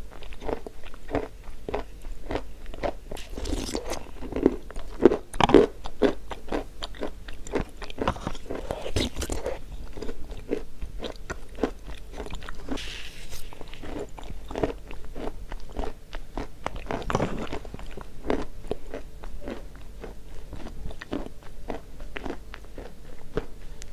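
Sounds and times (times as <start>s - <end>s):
chewing chalk crunches: 0.1s - 23.9s.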